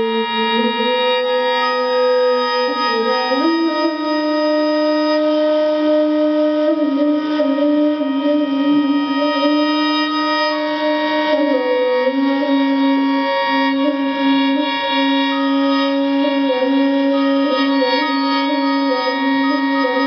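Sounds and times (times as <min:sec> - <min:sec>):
flute playing long notes: 0:00.0 - 0:20.0.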